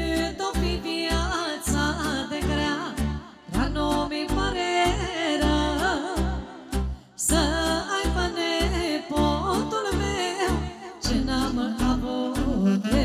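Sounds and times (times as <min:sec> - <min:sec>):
woman singing with vibrato: 0:00.0 - 0:13.0.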